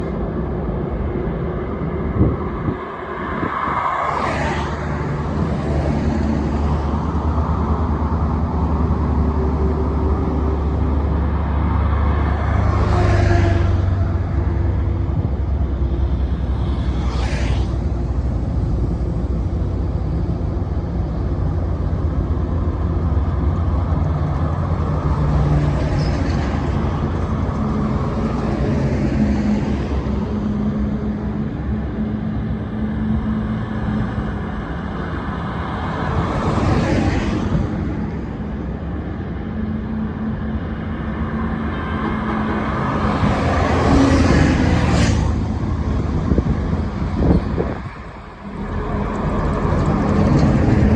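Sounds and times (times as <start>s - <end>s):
highway traffic noise: 0.0s - 50.9s
low engine hum: 0.0s - 50.9s
vehicles passing close by: 0.0s - 50.9s.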